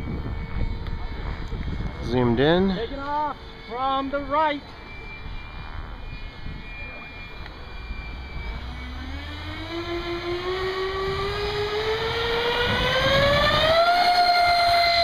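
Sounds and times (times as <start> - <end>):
electric ducted fans whining: 0.0 - 15.0
wind rumbling on microphone: 0.0 - 15.0.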